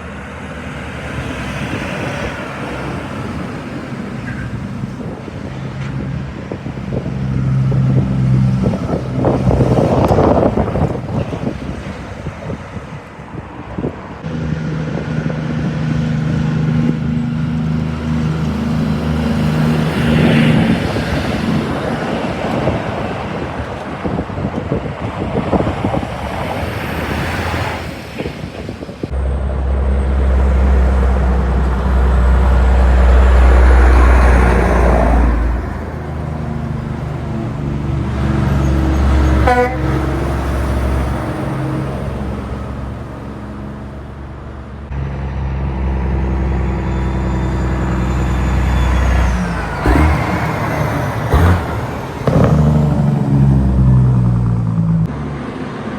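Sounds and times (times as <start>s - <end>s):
diesel engines running: 0.0s - 55.9s
trucks passing on highway: 0.0s - 55.9s
tyre and road noise: 0.0s - 55.9s.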